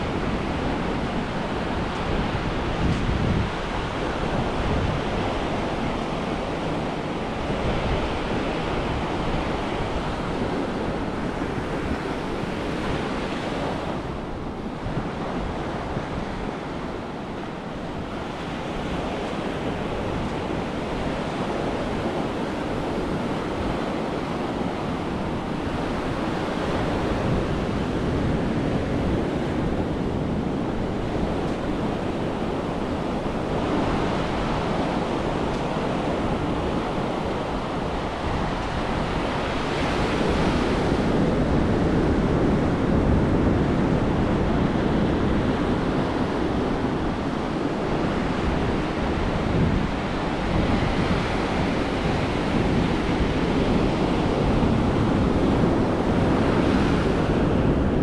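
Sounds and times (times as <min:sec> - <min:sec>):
surf washing up a beach: 0:00.0 - 0:58.0
wind rumbling on microphone: 0:00.0 - 0:58.0.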